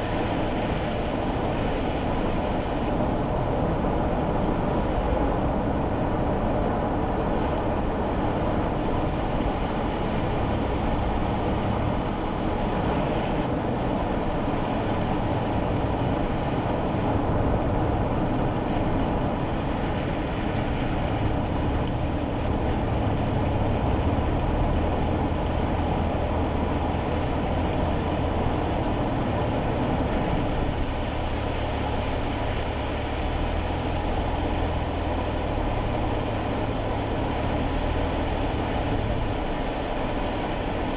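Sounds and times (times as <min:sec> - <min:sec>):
low engine drone: 0:00.0 - 0:40.9
tyre noise on wet road: 0:00.0 - 0:40.9.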